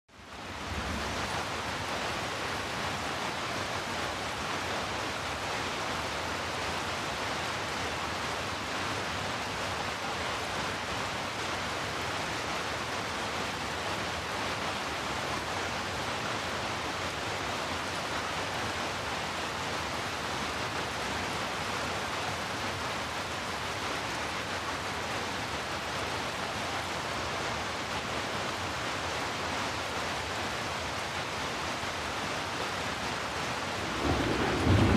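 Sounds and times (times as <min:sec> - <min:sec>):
steady rain hiss: 0:00.1 - 0:34.9.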